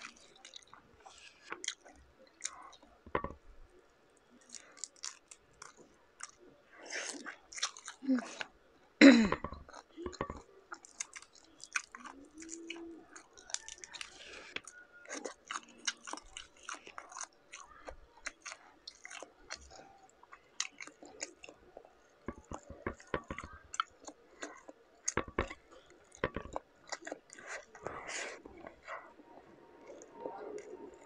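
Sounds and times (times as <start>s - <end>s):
chewing and biting: 0.0s - 3.0s, 4.2s - 8.5s, 9.6s - 31.0s.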